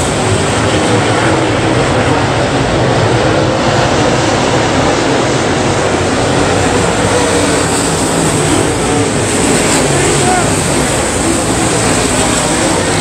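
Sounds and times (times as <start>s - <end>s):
race car engines roaring: 0.0s - 13.0s.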